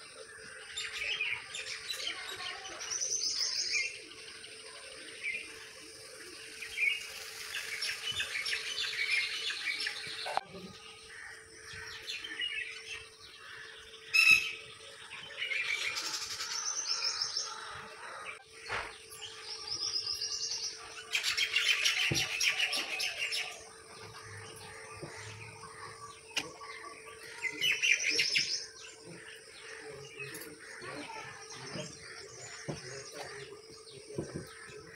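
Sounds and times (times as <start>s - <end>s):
birds chirping with trilled calls: 0.0s - 34.9s.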